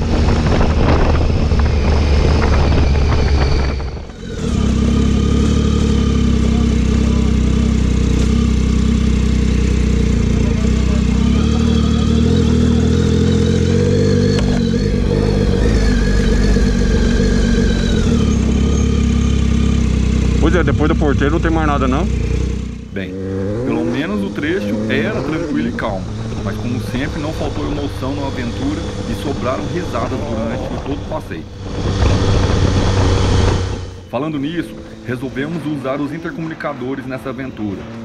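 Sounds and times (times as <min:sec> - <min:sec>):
motorcycle engine running: 0:00.0 - 0:36.8.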